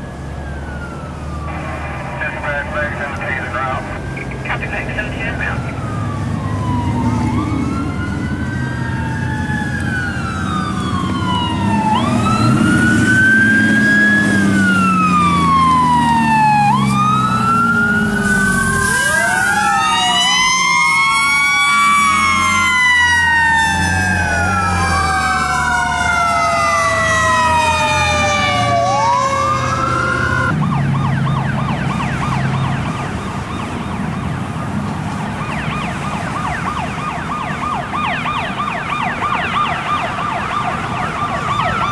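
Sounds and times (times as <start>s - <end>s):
fire engine sirens wailing: 0.0s - 41.9s
truck engines rumbling: 0.0s - 41.9s
warbling yelp siren: 0.0s - 41.9s.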